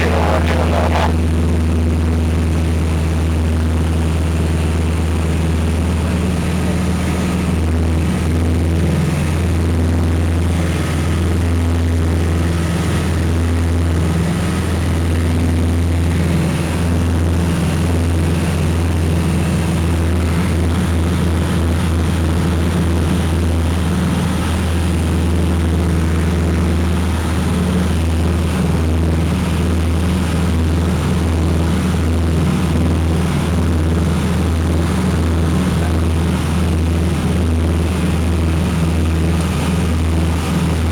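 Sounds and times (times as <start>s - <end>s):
propeller aircraft engines droning: 0.0s - 40.9s.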